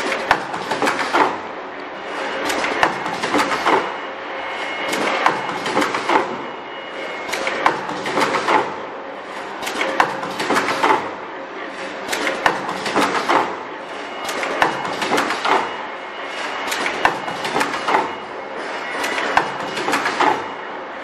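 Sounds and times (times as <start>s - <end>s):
sharp machine clacks: 0.0s - 1.5s, 2.1s - 20.7s
machine running steadily: 0.0s - 21.0s.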